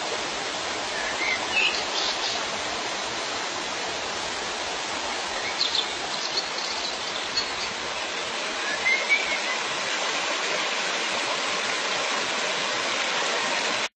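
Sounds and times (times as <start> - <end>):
stream water rushing: 0.0 - 13.9.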